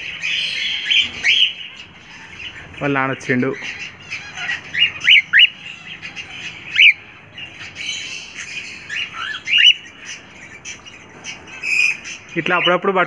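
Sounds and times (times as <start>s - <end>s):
cockatiels squawking: 0.0s - 13.0s
small birds chirping: 0.0s - 13.0s.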